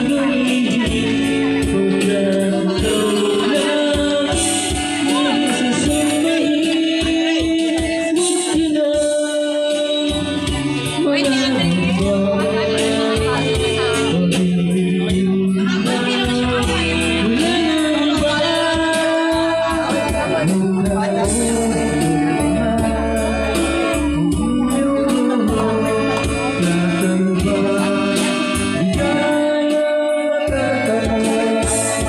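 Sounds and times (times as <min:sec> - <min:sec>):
backing track with steady beat: 0:00.0 - 0:32.0
person singing into microphone: 0:00.0 - 0:32.0.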